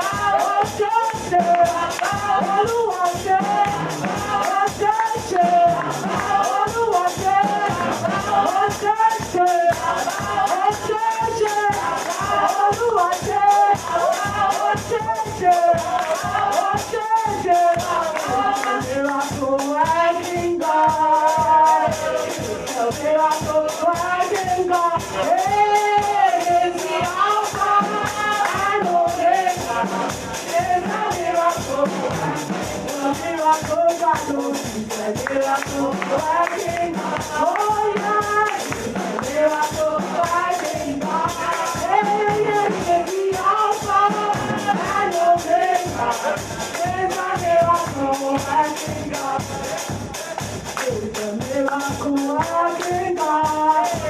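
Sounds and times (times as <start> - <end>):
band playing: 0.0 - 54.0
music with quick beat: 0.0 - 54.0
people singing worship song: 0.0 - 54.0.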